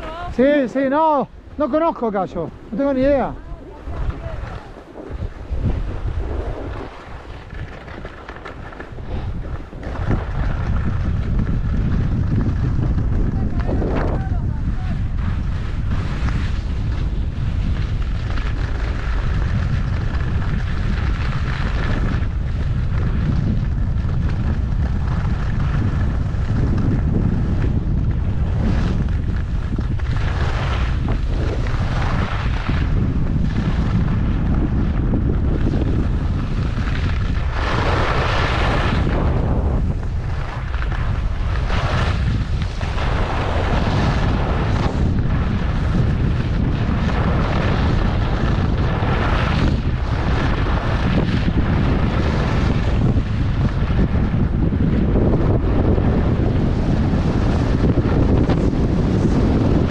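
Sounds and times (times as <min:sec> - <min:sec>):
skis scraping on snow: 0:00.0 - 0:59.9
wind buffeting microphone: 0:00.0 - 0:59.9.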